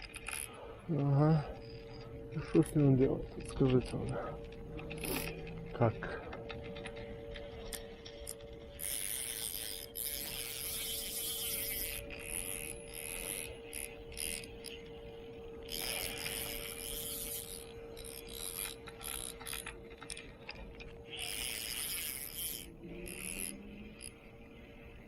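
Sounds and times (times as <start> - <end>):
fishing reel ratcheting: 0.0 - 5.7, 6.5 - 25.0
faint steady hum: 0.0 - 25.0.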